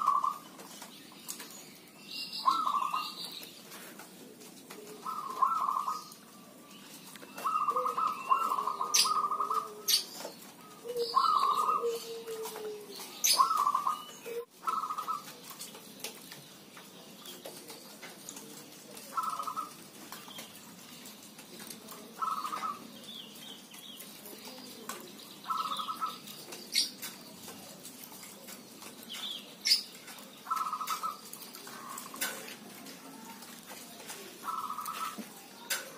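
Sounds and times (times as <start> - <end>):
doves cooing: 0.0 - 16.4, 17.3 - 35.9
small birds chirping: 0.0 - 35.9.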